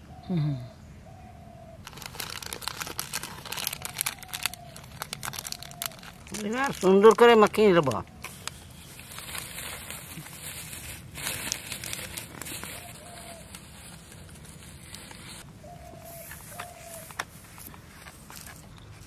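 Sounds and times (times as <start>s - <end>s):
leaf crinkling and rustling: 1.8s - 19.0s.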